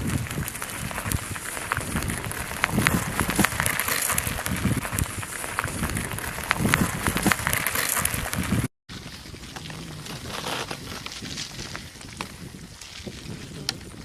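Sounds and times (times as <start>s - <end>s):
steady rumbling noise: 0.0s - 11.8s
lava crackling and popping: 0.0s - 14.0s.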